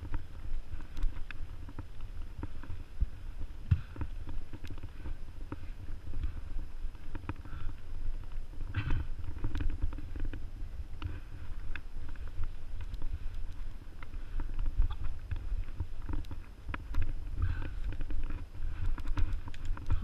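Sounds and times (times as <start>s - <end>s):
bike rattles and clicks: 0.0s - 20.0s
tyres rumbling on dirt trail: 0.0s - 20.0s
wind on microphone: 0.0s - 20.0s.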